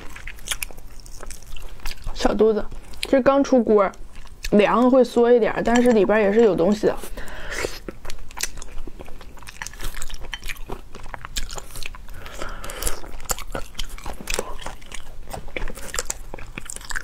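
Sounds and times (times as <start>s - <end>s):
crunching and chewing crayfish: 0.0s - 17.0s.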